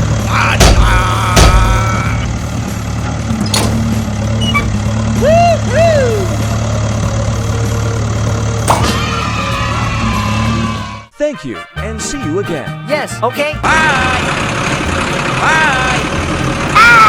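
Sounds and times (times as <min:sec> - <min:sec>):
engine idling: 0:00.0 - 0:11.1, 0:13.6 - 0:17.0.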